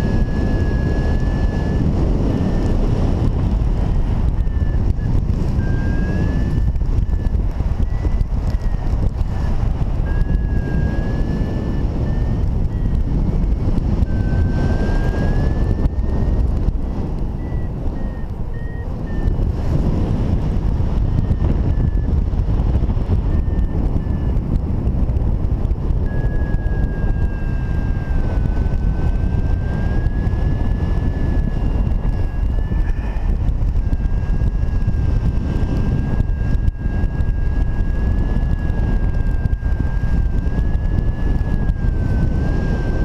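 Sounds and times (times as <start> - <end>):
airflow over microphone: 0.0 - 43.0
high electronic variometer beeps: 0.0 - 43.0.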